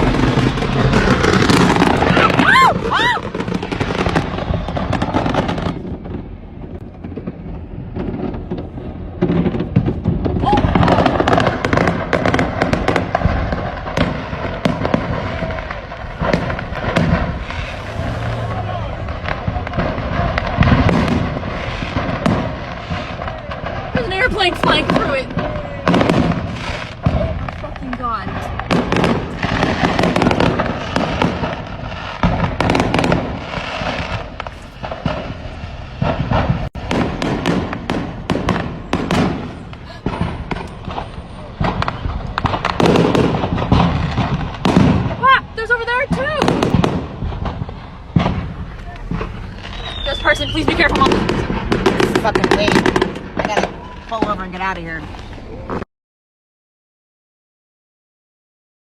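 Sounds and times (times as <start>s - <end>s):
fireworks crackling: 0.0s - 55.8s
fireworks cracking and popping: 0.0s - 55.9s.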